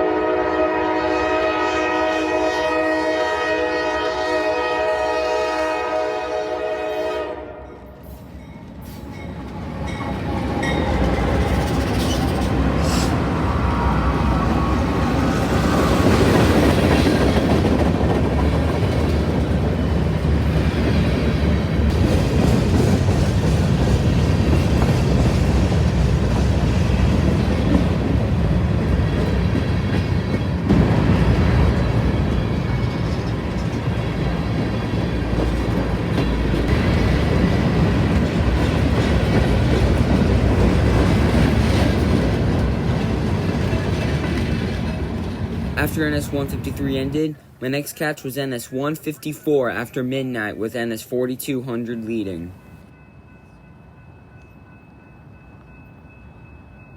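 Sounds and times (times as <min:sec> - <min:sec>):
freight train passing: 0:00.0 - 0:56.9.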